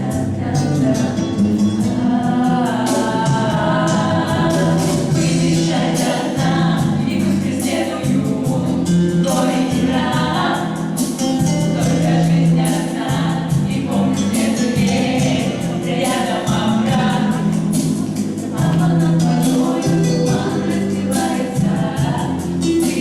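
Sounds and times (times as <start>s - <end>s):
choral singing: 0.0s - 23.0s
percussive beat: 0.0s - 23.0s.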